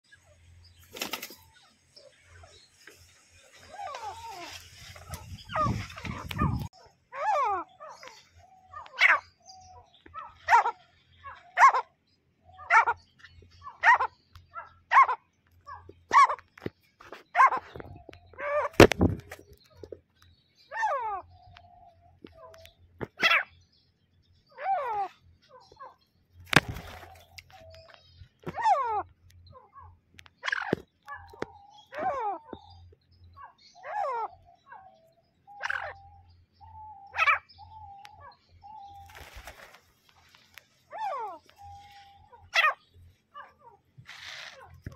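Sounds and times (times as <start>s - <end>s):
bird harsh calls: 0.1s - 20.0s, 20.6s - 23.6s, 24.4s - 44.9s.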